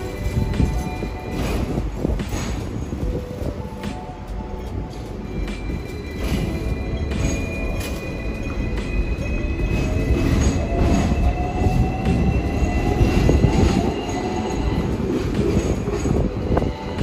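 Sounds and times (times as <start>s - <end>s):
tram wheels squealing on rails: 0.0s - 17.0s.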